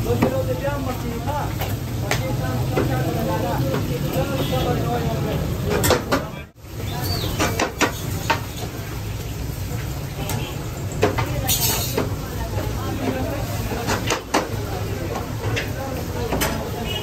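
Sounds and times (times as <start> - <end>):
meat frying in oil: 0.0 - 5.7, 6.6 - 17.0
people's voices: 0.0 - 17.0.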